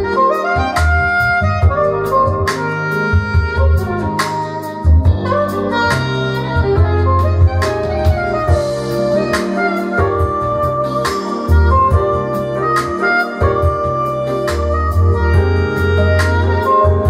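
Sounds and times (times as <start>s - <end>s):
smooth jazz over loudspeakers: 0.0s - 17.0s.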